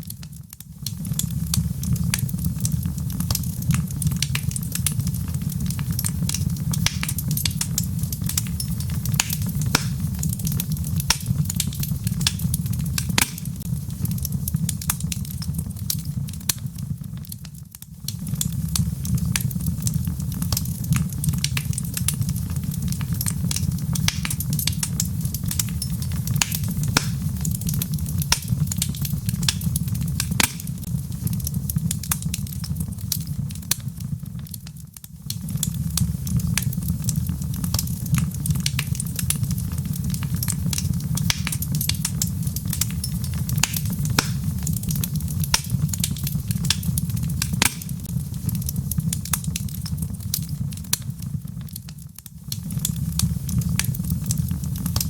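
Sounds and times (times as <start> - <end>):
fire pops and snaps: 0.0 - 55.0
burning logs rumbling: 0.2 - 55.0.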